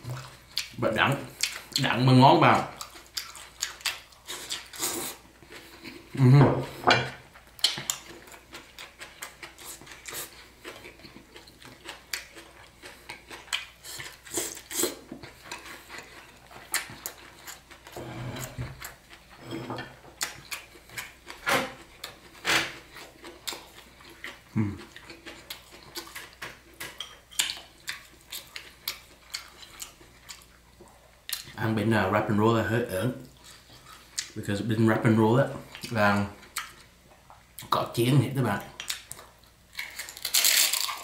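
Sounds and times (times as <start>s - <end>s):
food being chewed: 0.0s - 1.9s, 2.8s - 31.6s, 33.2s - 34.4s, 35.6s - 37.8s, 38.6s - 41.0s.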